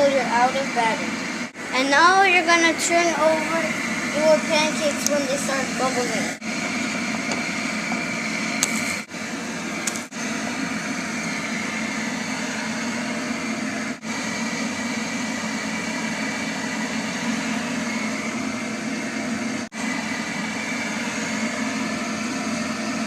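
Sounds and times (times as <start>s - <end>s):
range hood fan whining: 0.0s - 23.0s.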